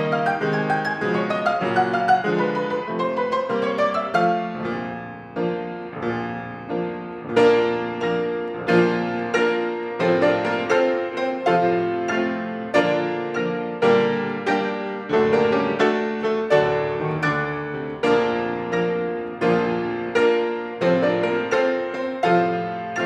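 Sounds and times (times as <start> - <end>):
grand piano chords: 0.0 - 23.0.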